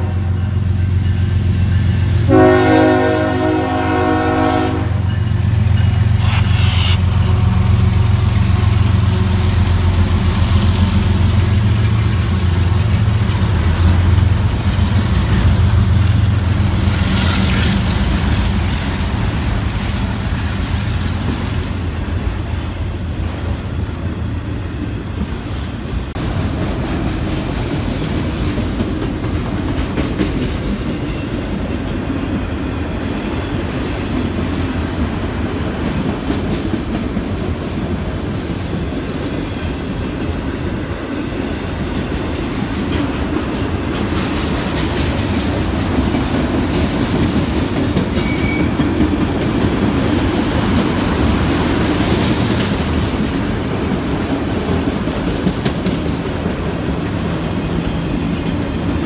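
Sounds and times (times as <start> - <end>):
diesel locomotive engines humming: 0.0 - 59.0
train cars rolling and rattling: 0.0 - 59.0.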